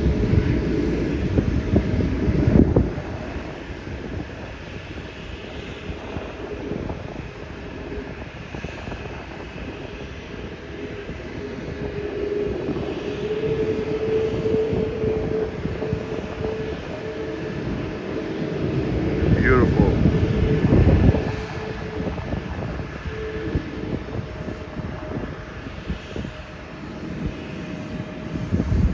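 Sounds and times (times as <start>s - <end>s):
jet engine whine and rush: 0.0s - 28.9s.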